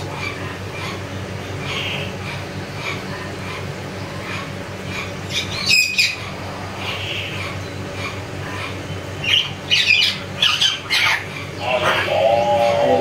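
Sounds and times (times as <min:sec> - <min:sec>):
soft bird calls: 0:00.0 - 0:13.0.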